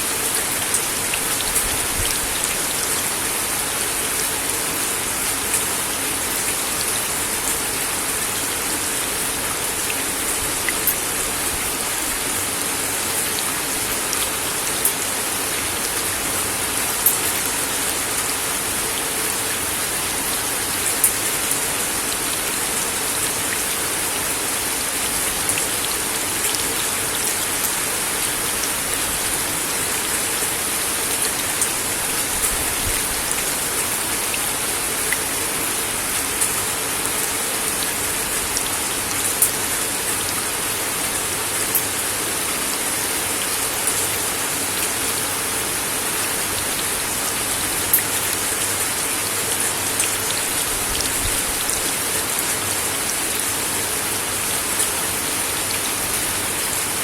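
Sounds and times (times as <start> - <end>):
rain on a wooden deck: 0.0 - 57.0.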